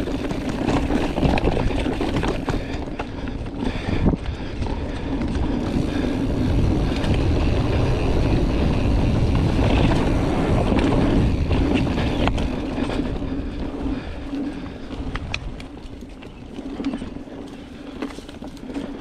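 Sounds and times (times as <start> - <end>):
wind on microphone: 0.0 - 17.2
bike tyres rolling over dirt: 0.0 - 19.0.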